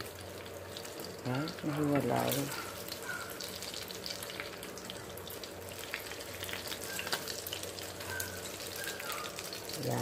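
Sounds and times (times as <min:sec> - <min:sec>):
omelette sizzling in oil: 0:00.0 - 0:10.0.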